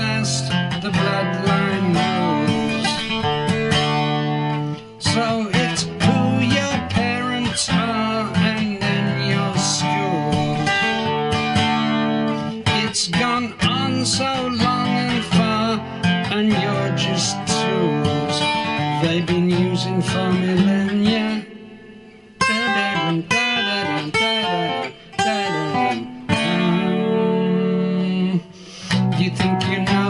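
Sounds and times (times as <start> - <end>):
man singing: 0.0 - 3.8, 4.7 - 11.2, 12.3 - 30.0
strummed acoustic guitar: 0.0 - 30.0.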